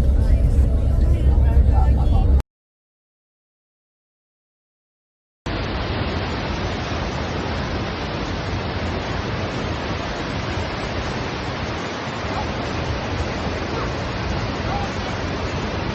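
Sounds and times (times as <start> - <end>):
loud steady rushing noise: 0.0 - 2.4, 5.5 - 15.9.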